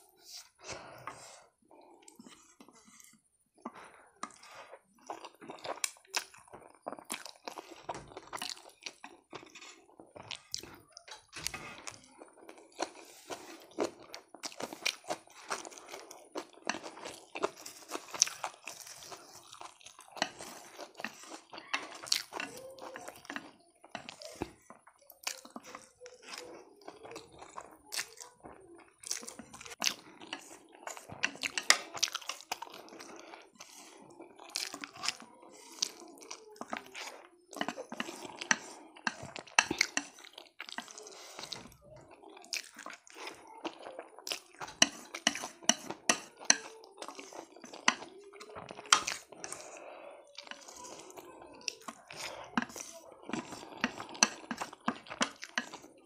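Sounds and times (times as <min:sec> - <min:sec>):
noodles chewed and slurped: 0:00.0 - 0:56.0.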